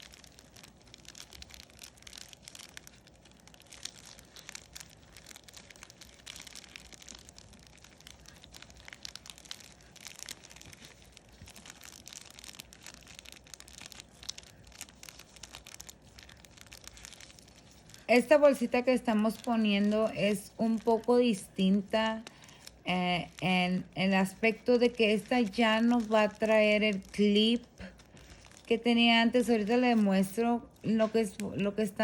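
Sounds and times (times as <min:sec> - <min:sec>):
plastic bag crinkling: 0:00.0 - 0:32.0.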